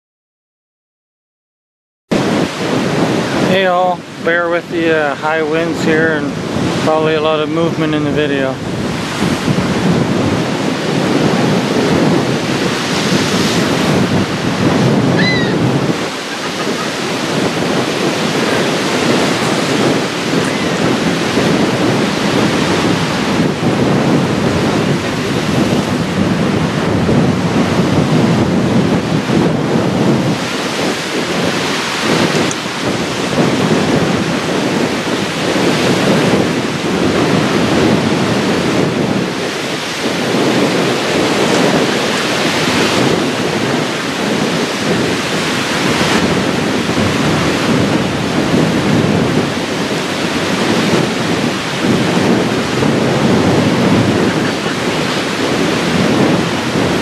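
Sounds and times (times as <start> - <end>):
waves washing against rocks: 2.1 - 57.0
wind gusts buffeting microphone: 2.1 - 57.0.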